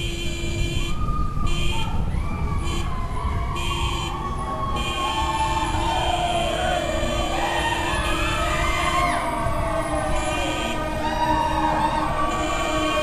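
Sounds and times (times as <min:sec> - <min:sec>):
street noise: 0:00.0 - 0:13.0
wind rumble: 0:00.0 - 0:13.0
siren wailing: 0:01.0 - 0:13.0.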